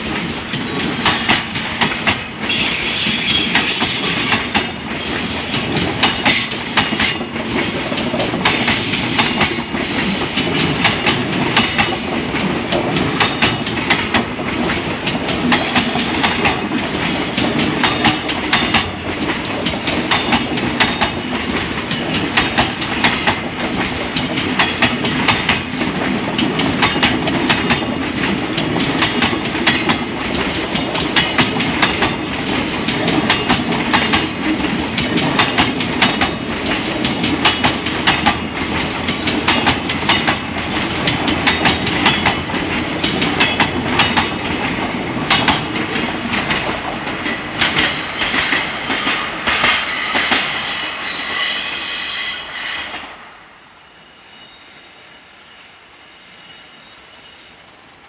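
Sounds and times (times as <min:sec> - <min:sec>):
wheels clacking over rail joints: 0:00.0 - 0:50.6.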